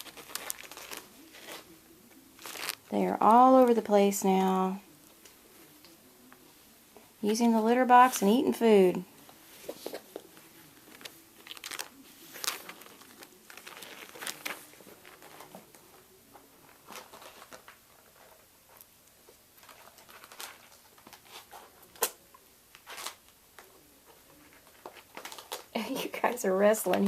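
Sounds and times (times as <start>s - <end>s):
kittens rustling and scratching: 0.0s - 6.7s, 9.2s - 27.0s.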